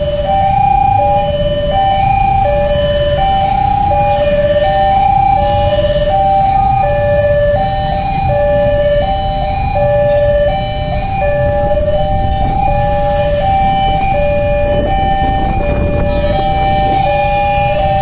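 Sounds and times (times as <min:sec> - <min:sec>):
level crossing two-tone alarm: 0:00.0 - 0:18.0
road traffic rumble: 0:00.0 - 0:18.0.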